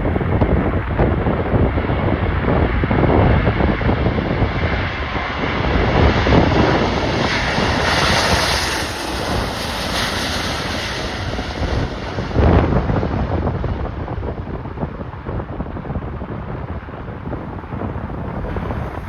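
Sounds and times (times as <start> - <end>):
jet airliner engine noise: 0.0 - 19.0
wind buffeting microphone: 0.0 - 19.0.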